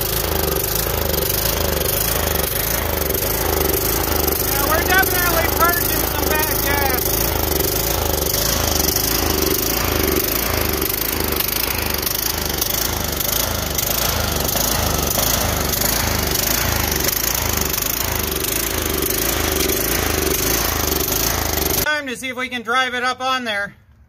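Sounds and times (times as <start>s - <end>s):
riding mower engine running: 0.0s - 21.9s.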